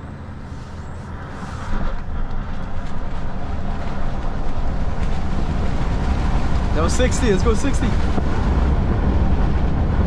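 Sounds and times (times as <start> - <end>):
tyre and road rumble: 0.0 - 10.0.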